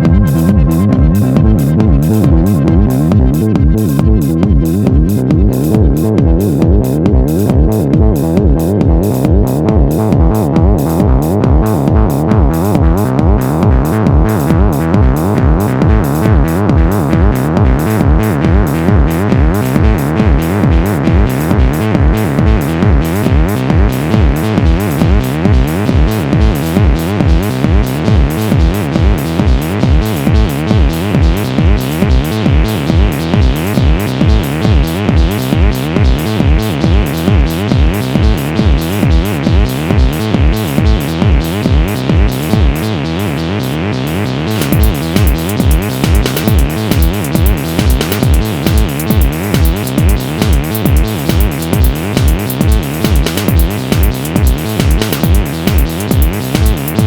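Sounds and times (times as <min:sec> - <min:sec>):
buzzing synth line: 0:00.0 - 0:57.0
techno kick drum beat: 0:00.0 - 0:57.0.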